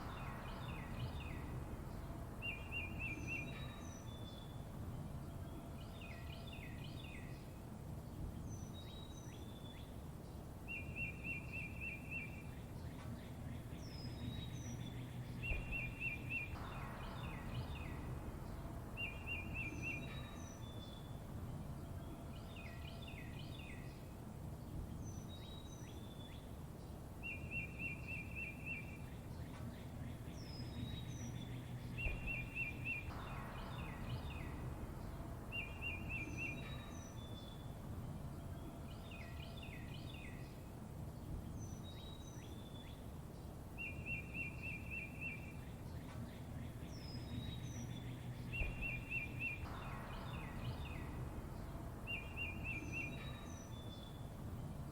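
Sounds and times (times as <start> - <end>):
low background rumble: 0.0 - 54.9
songbirds chirping: 0.0 - 54.9.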